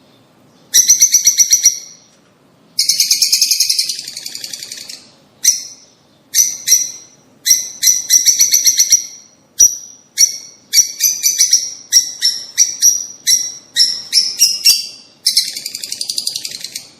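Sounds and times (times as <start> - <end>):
birds chirping and trilling: 0.0 - 16.9.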